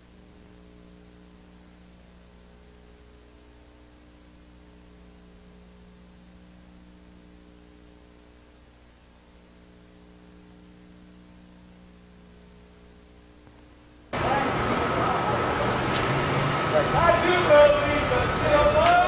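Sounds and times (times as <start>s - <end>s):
faint mains hum: 0.0s - 19.0s.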